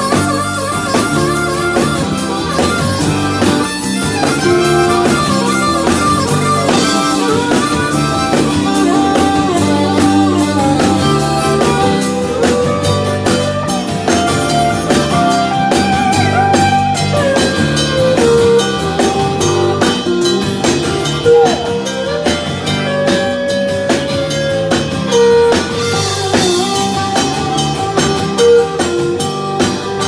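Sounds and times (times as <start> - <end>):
bass: 0.0 - 30.0
drum kit steady beat: 0.0 - 30.0
guitar solo: 0.0 - 30.0.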